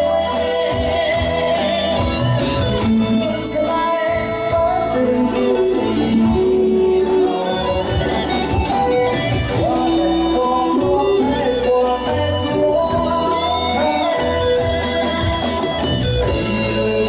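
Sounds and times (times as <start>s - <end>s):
backing band playing: 0.0s - 17.0s
person singing: 0.0s - 17.0s.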